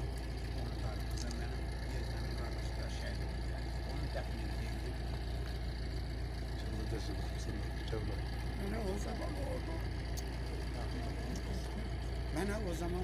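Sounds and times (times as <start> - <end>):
crowd voices: 0.0 - 13.0.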